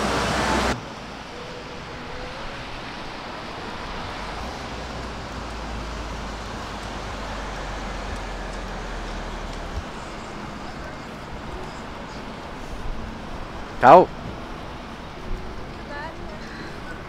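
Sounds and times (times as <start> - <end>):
distant road traffic: 0.0 - 17.0
wind hiss: 0.0 - 17.0.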